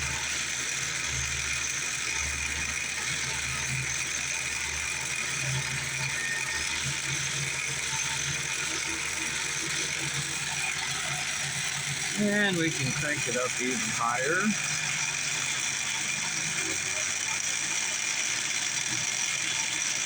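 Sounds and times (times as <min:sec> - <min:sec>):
small lathe motor running: 0:00.0 - 0:20.0.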